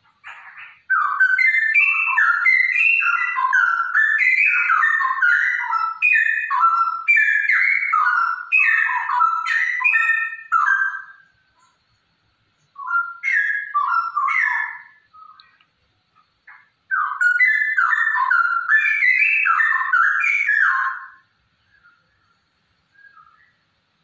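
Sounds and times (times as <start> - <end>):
bird singing whistled notes: 0.0 - 15.6, 16.4 - 23.7.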